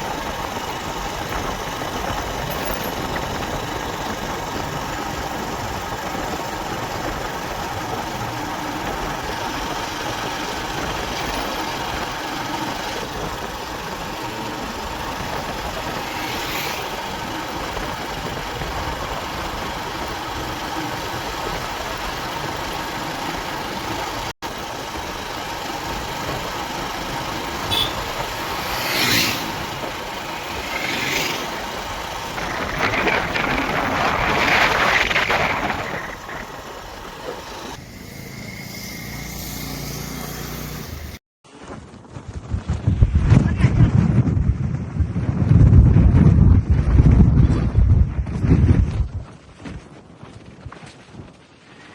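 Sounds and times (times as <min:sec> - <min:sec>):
motorcycle running: 0:00.0 - 0:49.8
road and wind noise: 0:00.0 - 0:51.9.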